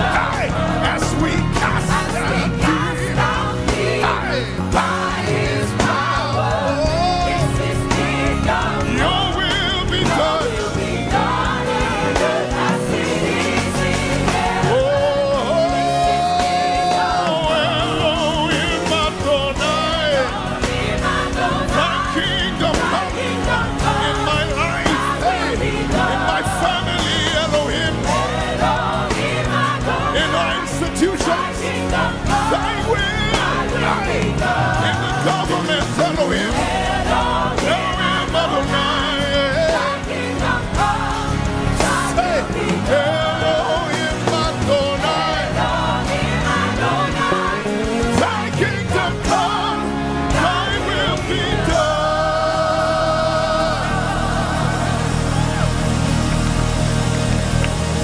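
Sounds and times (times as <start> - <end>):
gospel singing with vibrato: 0.0 - 58.0
musical backing: 0.0 - 58.0.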